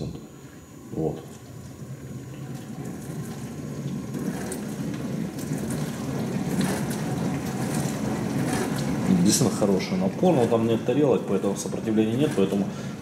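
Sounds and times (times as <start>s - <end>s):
dishwasher water spray rushing: 2.6s - 13.0s.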